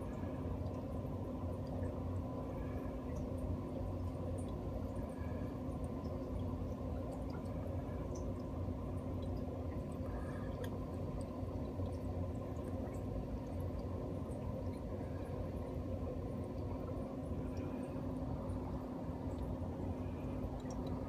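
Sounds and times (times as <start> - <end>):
steady low hum: 0.0 - 21.0
water ticking and dripping: 0.0 - 21.0.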